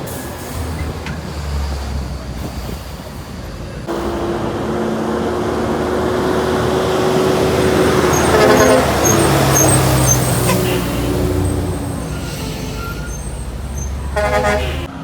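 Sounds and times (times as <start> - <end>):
heavy truck engine and tyres: 0.0 - 15.0.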